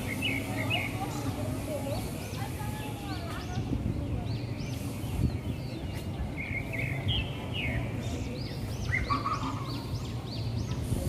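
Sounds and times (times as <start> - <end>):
city background rumble: 0.0 - 11.0
small birds chirping: 0.0 - 11.0.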